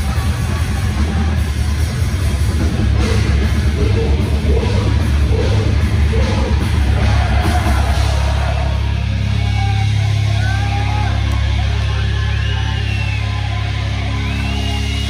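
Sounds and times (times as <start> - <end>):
distorted guitars: 0.0 - 15.0
drums: 0.0 - 15.0.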